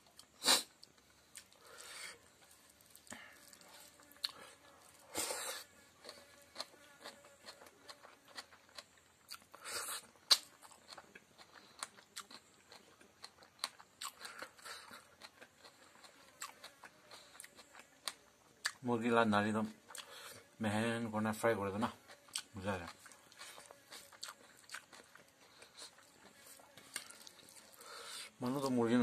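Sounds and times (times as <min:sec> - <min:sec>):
chewing and crunching: 0:00.0 - 0:20.5, 0:21.2 - 0:29.0.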